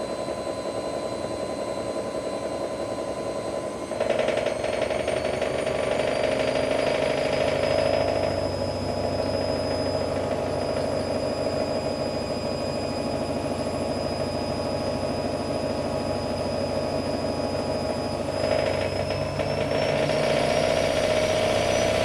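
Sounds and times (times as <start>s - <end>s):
thin high whine: 0.0s - 22.0s
washing machine drone: 0.0s - 22.0s.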